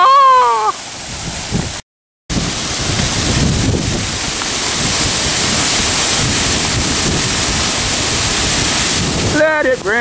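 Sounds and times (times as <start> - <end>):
waterfall rushing: 0.0 - 10.0
wind buffeting microphone: 0.9 - 10.0.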